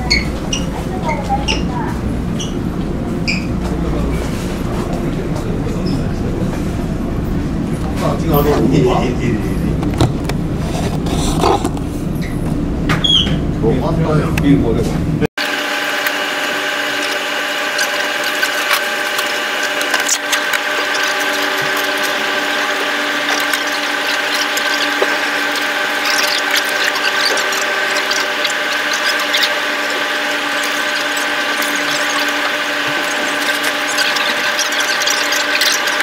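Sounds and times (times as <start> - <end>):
steady mechanical whine: 0.0 - 36.0.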